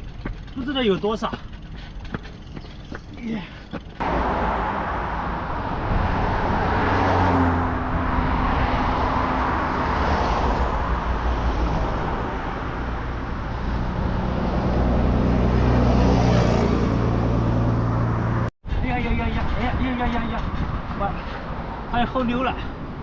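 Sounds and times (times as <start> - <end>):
vehicle engine humming: 0.0 - 18.5
rushing road noise: 0.0 - 23.0.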